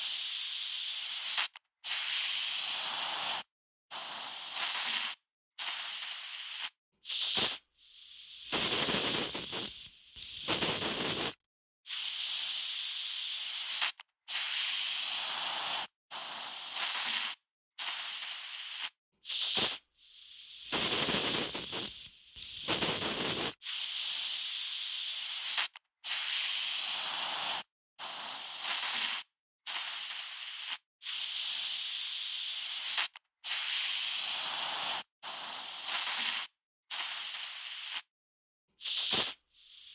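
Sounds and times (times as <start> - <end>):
aerosol spray can hissing: 0.4 - 38.1, 38.8 - 39.9.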